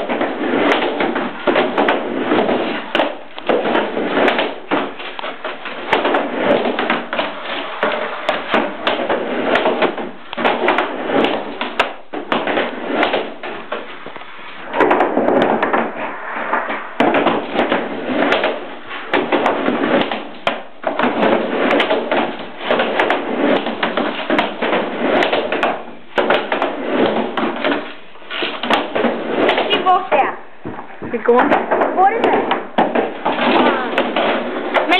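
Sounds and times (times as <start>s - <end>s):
skateboard knocking on plywood: 0.0s - 14.0s, 17.0s - 30.0s, 30.6s - 34.9s
skateboard wheels rumbling on wood: 0.0s - 30.8s, 31.5s - 34.9s.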